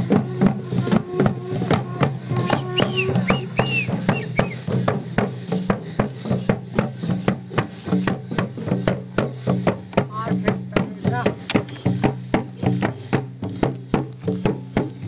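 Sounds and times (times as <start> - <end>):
hand-beaten barrel drums: 0.0 - 15.0.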